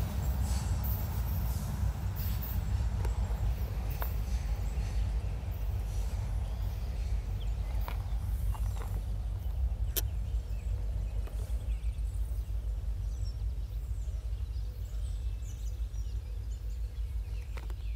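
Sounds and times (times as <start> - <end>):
freight train rolling past: 0.0 - 17.9.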